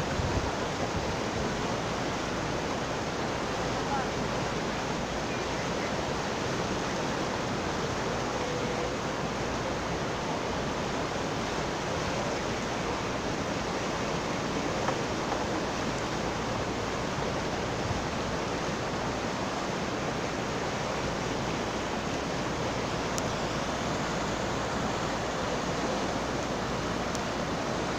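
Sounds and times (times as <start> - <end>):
river water rushing over rapids: 0.0 - 27.9.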